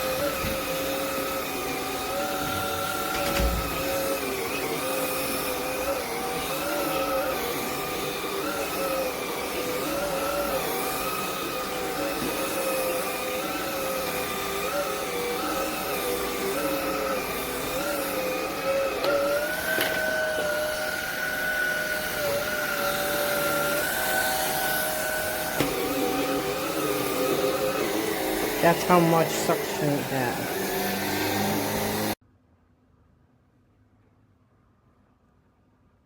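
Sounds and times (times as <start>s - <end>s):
vacuum cleaner motor whine: 0.0s - 32.2s.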